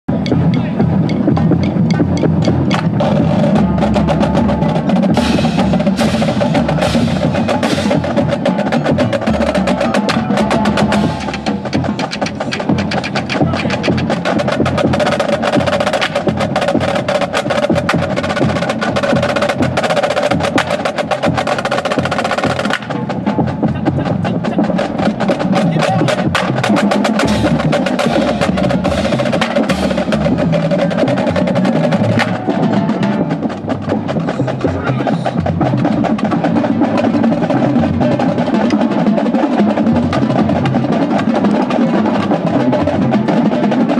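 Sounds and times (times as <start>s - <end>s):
rapid drum strokes: 0.1s - 43.9s.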